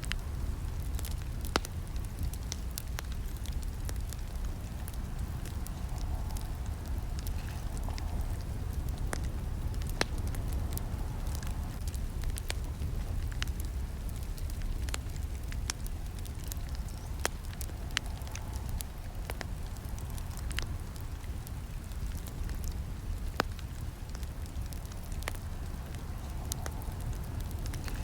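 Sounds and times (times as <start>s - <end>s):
burning wood crackling: 0.0s - 28.0s
campfire flames rushing: 0.0s - 28.0s.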